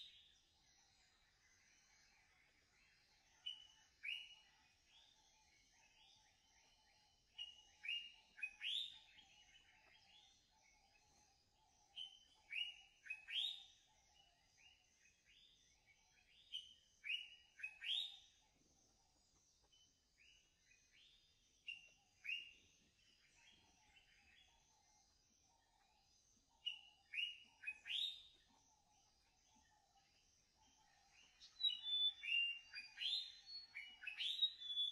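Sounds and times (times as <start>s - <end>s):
songbird chirping: 0.0s - 34.9s.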